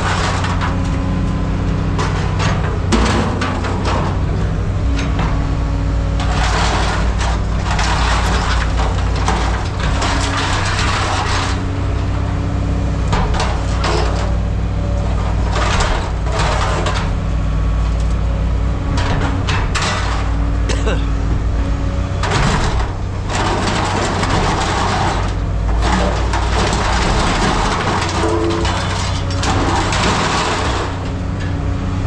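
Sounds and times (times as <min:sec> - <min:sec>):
scrap metal rattling and crashing: 0:00.0 - 0:31.8.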